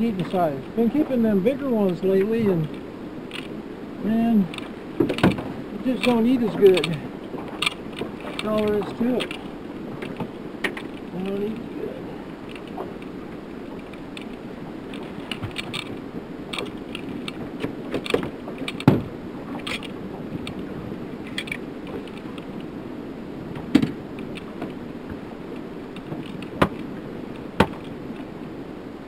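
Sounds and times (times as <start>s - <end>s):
wind and water rushing: 0.0s - 29.0s.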